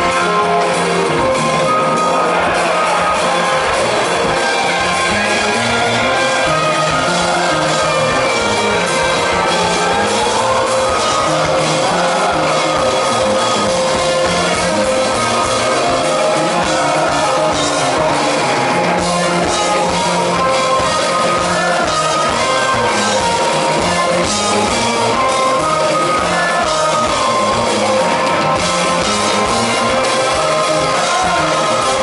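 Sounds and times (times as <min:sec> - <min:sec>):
drum kit: 0:00.0 - 0:32.0
electric guitar: 0:00.0 - 0:32.0
live rock band playing: 0:00.0 - 0:32.0
person singing: 0:00.0 - 0:32.0.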